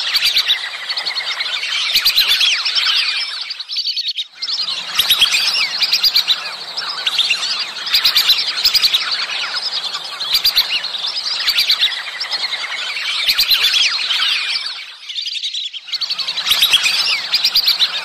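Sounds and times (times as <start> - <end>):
whistling ducks calling: 0.0 - 18.0.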